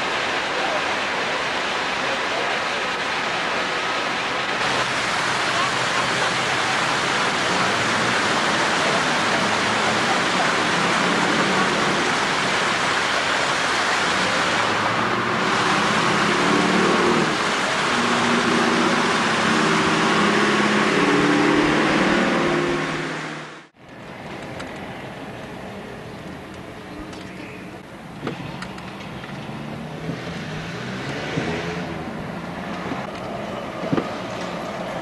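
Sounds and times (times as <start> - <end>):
fountain water splashing: 0.0 - 35.0
road traffic hum: 0.0 - 35.0.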